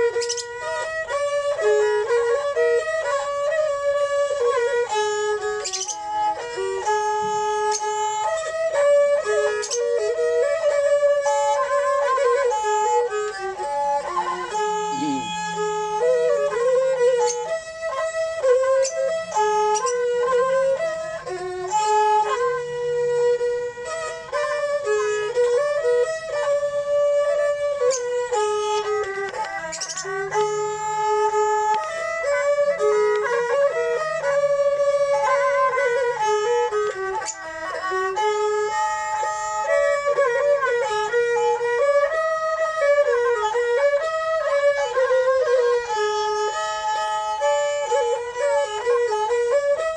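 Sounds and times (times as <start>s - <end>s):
bowed fiddles playing a melody: 0.0s - 49.9s.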